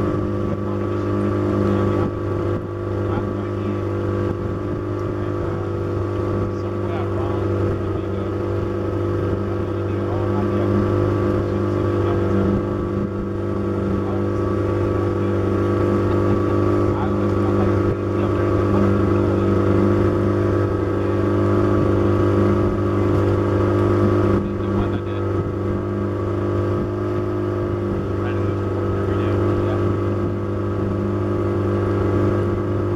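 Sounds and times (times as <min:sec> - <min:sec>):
boat motor running: 0:00.0 - 0:32.9.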